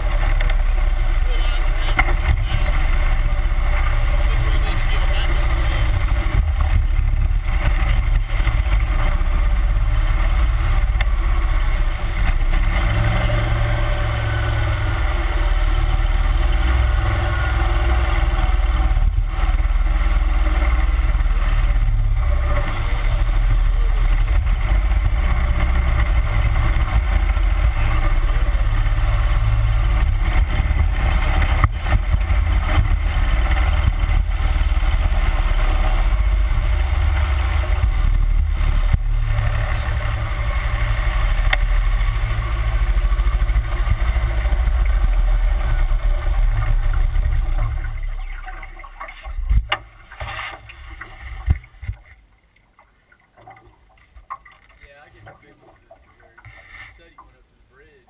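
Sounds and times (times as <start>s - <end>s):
boat motor running: 0.0s - 52.3s.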